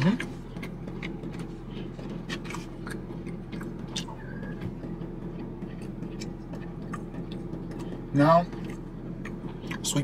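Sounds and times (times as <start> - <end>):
man chewing with wet smacks: 0.0 - 10.0
steady low hum: 0.0 - 10.0.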